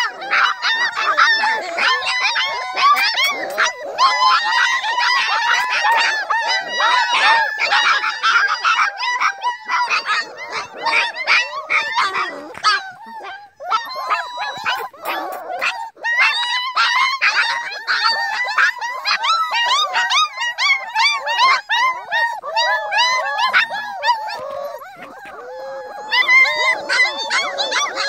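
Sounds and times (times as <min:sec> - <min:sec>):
puppies whining and yelping: 0:00.0 - 0:28.0.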